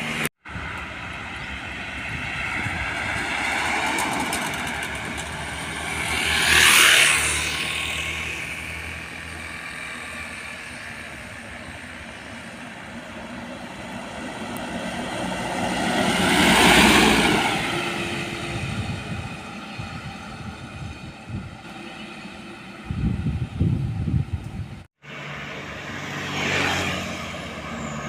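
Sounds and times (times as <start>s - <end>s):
vehicle passing on road: 0.0s - 28.0s.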